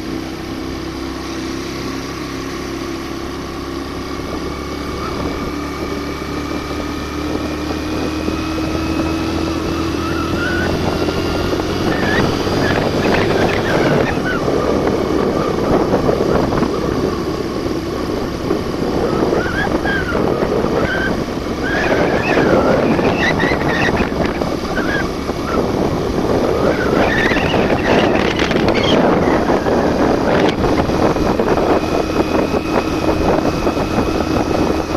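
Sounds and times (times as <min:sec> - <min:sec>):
motorcycle engine revving: 0:00.0 - 0:34.9
wind noise on microphone: 0:00.0 - 0:34.9.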